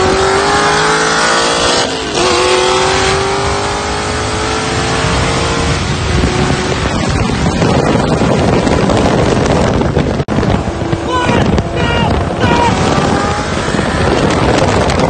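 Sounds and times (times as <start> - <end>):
racing car engine at full throttle: 0.0 - 15.0
rushing noise: 0.0 - 15.0.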